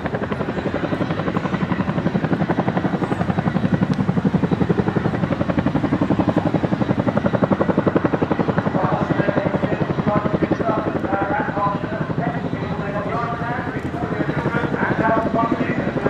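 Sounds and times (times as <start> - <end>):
helicopter rotor blade slap: 1.1 - 16.0.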